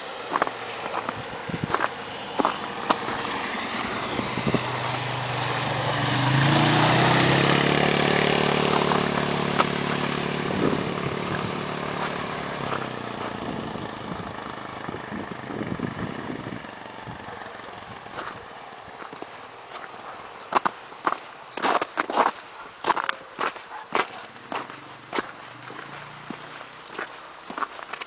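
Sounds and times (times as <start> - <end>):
vehicle passing: 0.0 - 20.4, 24.2 - 27.9.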